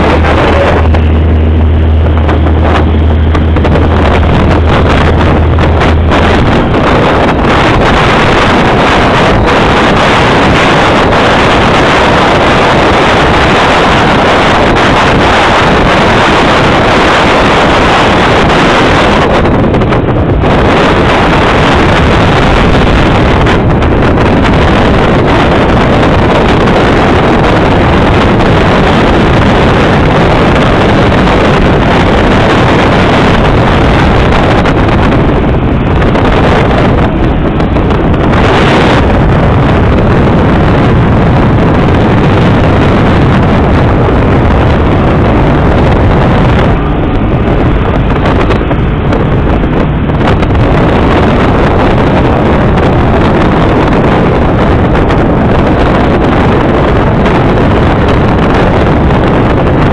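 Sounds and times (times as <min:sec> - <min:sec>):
motorboat engine running: 0:00.0 - 0:59.9
wind buffeting microphone: 0:00.0 - 0:59.9.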